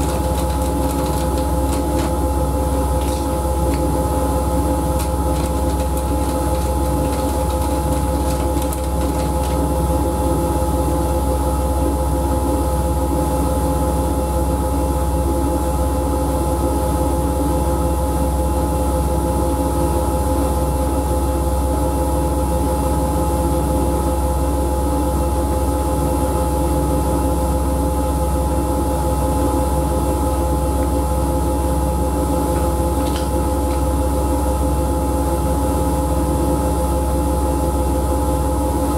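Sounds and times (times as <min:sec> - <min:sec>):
washing machine humming and whining: 0:00.0 - 0:38.9.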